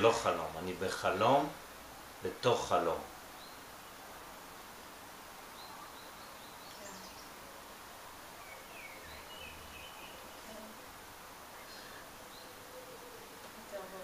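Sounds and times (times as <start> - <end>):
faint background hiss: 0.0 - 14.0.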